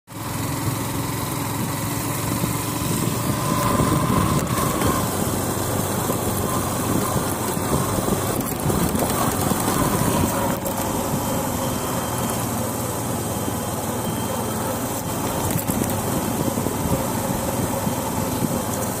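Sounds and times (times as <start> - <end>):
motorcycle engine at low speed: 0.1 - 19.0
road and wind noise: 0.1 - 19.0.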